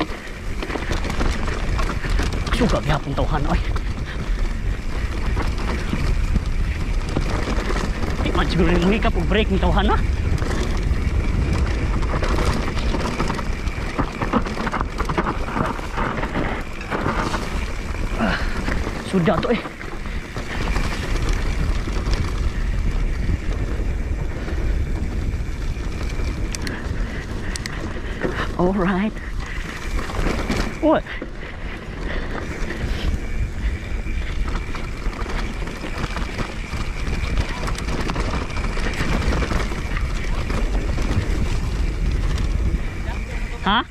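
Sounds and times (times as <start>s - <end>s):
bike clicks and rattles: 0.0s - 43.9s
wind buffeting microphone: 0.0s - 43.9s.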